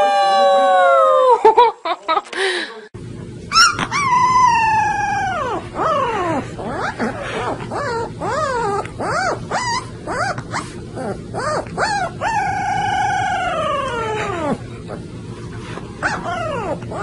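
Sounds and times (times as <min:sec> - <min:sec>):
puppy howling: 0:00.0 - 0:01.4, 0:03.5 - 0:15.0, 0:16.0 - 0:17.0.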